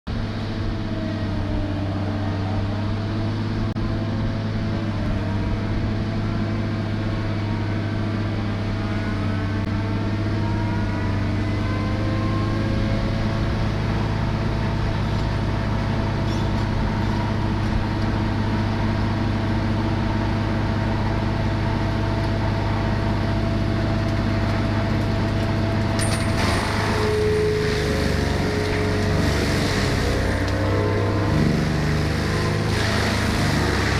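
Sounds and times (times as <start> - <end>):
heavy machine engine running: 0.1 - 33.9
rough noisy machine sound: 0.1 - 33.9.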